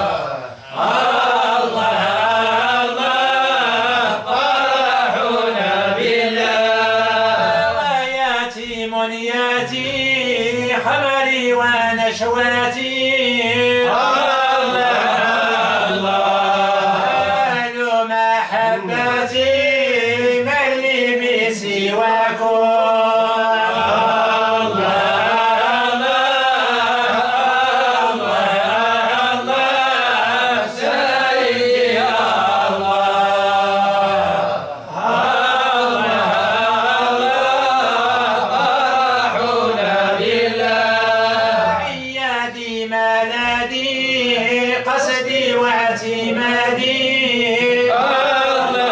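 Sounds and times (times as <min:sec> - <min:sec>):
man chanting devotional song: 0:00.0 - 0:48.9.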